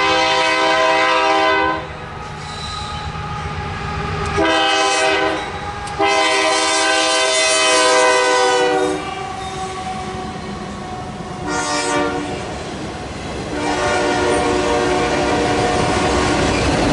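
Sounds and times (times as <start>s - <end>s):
locomotive air horn blasts: 0.0s - 2.4s, 3.2s - 12.5s, 13.5s - 16.3s
train rumble and wheel clatter: 0.0s - 16.9s.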